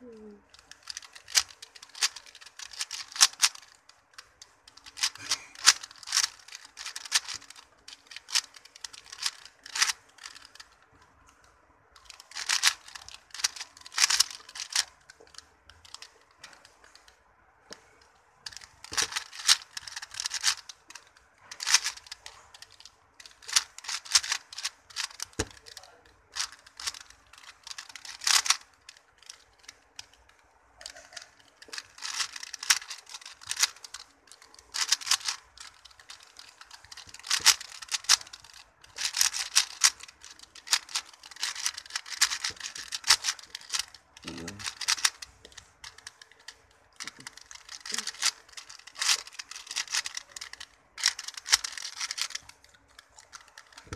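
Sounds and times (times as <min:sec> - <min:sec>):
puzzle cube clicking: 0:00.0 - 0:53.9.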